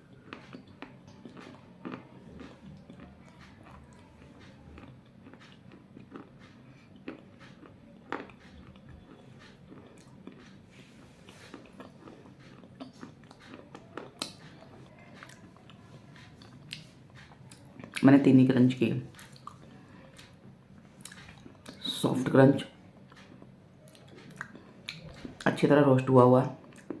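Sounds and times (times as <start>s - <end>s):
crunchy chewing: 0.0s - 18.1s, 18.8s - 21.9s, 22.9s - 25.5s.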